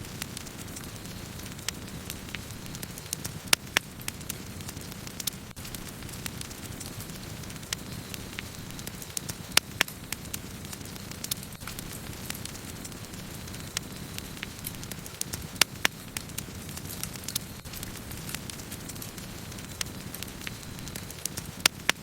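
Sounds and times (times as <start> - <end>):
burning wood crackling and popping: 0.0 - 22.0
campfire flames rumbling: 0.0 - 22.0.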